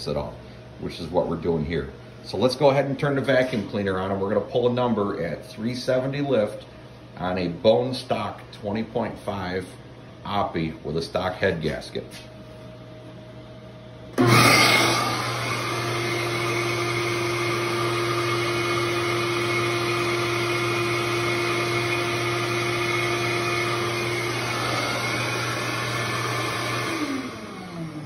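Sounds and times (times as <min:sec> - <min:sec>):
shop vac running: 0:00.0 - 0:28.0.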